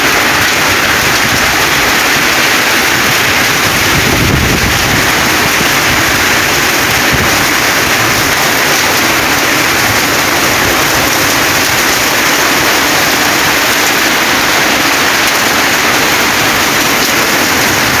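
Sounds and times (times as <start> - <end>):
rainwater rushing: 0.0 - 18.0.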